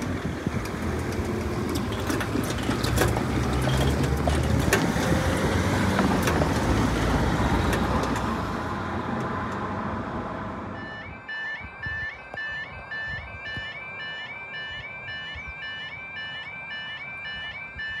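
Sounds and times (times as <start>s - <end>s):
vehicle engine and tyre noise: 0.0s - 18.0s.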